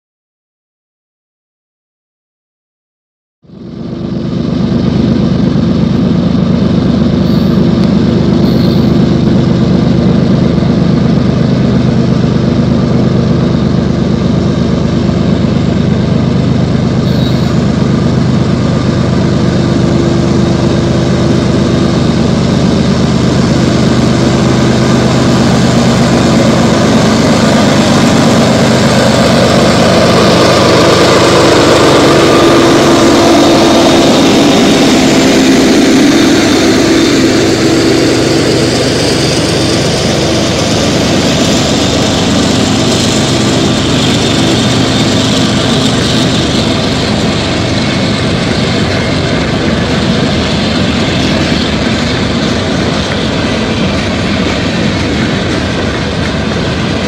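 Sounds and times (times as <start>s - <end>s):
diesel locomotive engine drone: 3.4s - 57.0s.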